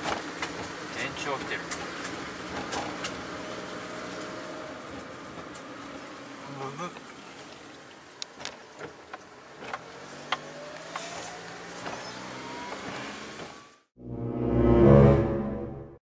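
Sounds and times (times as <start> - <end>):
car interior road noise: 0.0 - 13.8.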